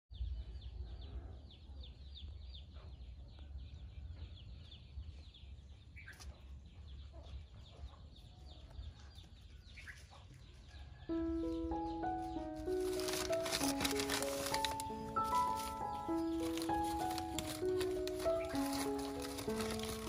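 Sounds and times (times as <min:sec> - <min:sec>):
chicks peeping: 0:00.2 - 0:20.0.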